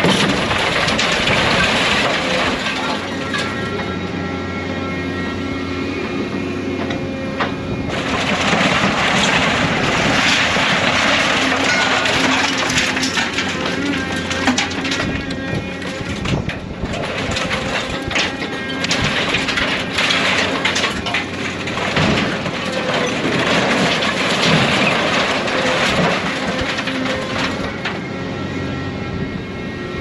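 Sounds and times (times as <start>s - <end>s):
scrap metal clanks and crunches: 0.0s - 28.1s
heavy machine engine and hydraulics: 0.0s - 30.0s.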